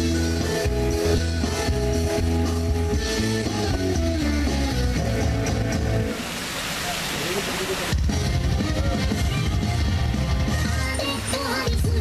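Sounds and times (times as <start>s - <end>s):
rock music: 0.0s - 6.3s, 7.9s - 12.0s.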